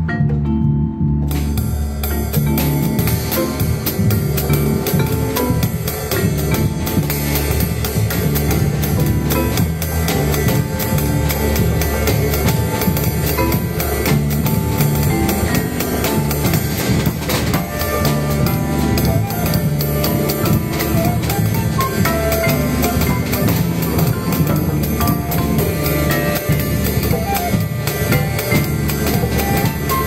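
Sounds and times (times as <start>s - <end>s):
drum kit beat: 0.0s - 30.0s
melody line: 0.0s - 30.0s
walking bass line: 0.0s - 30.0s.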